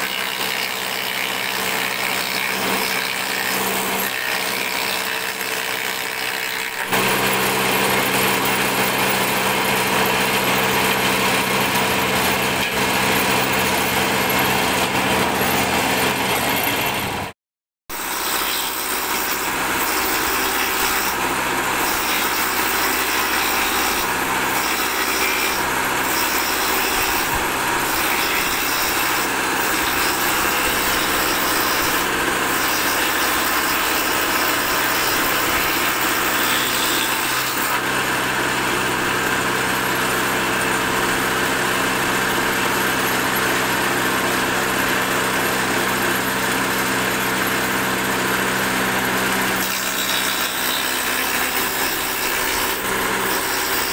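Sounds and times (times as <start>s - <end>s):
woodworking machine cutting board: 0.0s - 53.9s.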